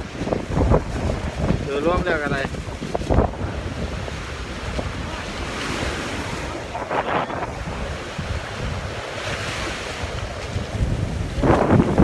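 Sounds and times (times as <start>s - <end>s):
sea waves washing on shore: 0.0s - 12.0s
wind buffeting microphone: 0.0s - 12.0s.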